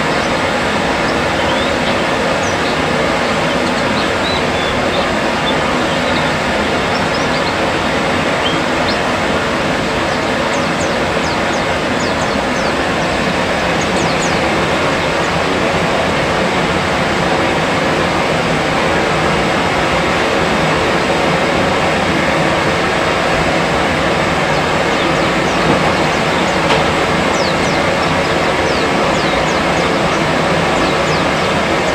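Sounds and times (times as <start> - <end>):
loud steady rushing noise: 0.0 - 31.9.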